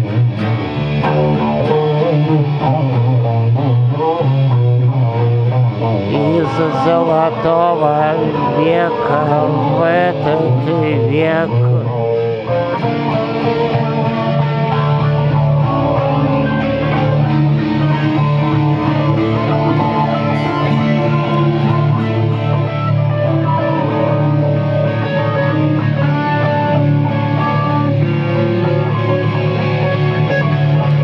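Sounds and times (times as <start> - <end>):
acoustic guitars playing: 0.0 - 31.0.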